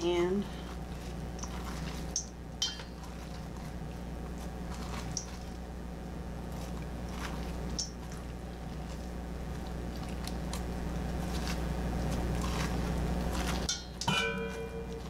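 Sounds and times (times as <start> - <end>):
low hum: 0.0 - 15.0
hand scraping pumpkin pulp: 0.2 - 2.2, 2.9 - 5.6, 6.5 - 15.0
wet squelches and clicks: 0.9 - 5.7, 6.5 - 14.1.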